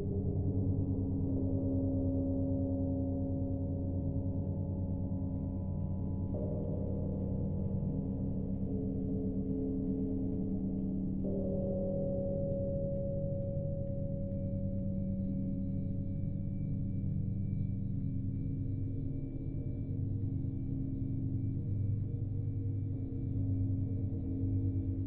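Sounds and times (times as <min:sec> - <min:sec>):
steady low drone: 0:00.0 - 0:25.0.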